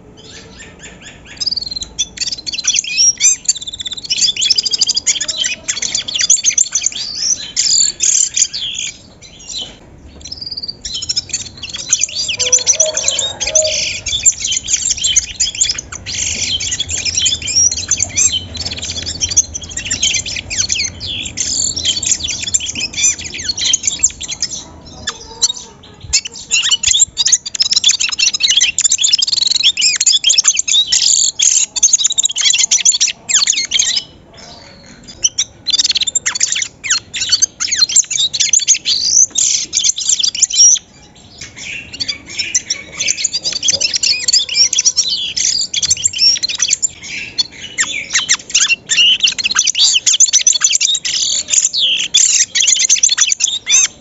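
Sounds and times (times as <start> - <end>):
bird twittering chirps: 0.0 - 54.0.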